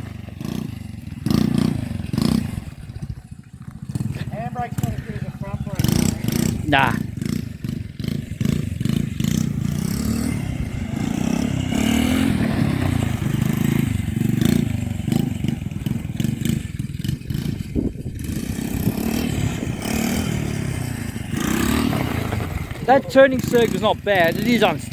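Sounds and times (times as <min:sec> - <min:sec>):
small engine revving: 0:00.0 - 0:24.9
wheels scraping on ground: 0:00.0 - 0:24.9.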